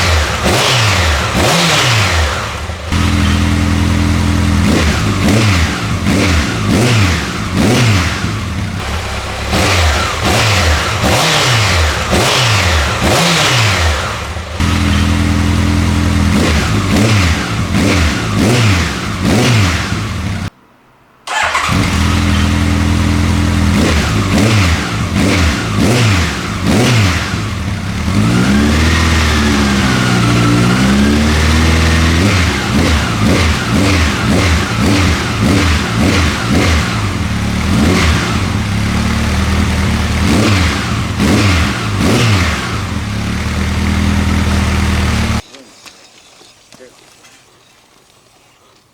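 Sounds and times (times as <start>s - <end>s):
motorcycle engine revving: 0.0s - 20.5s, 21.3s - 45.4s.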